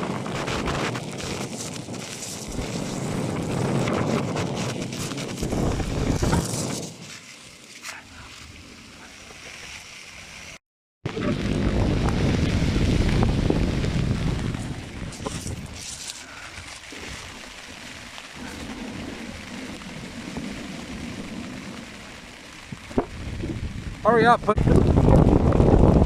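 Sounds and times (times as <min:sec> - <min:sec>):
strong wind buffeting microphone: 0:00.0 - 0:07.1, 0:11.1 - 0:26.0.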